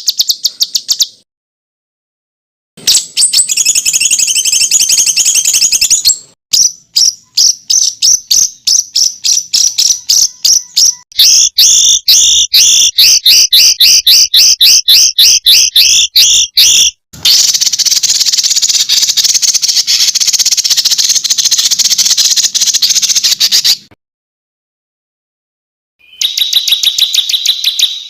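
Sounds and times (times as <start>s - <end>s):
songbird calls: 2.8s - 23.9s, 26.0s - 28.0s.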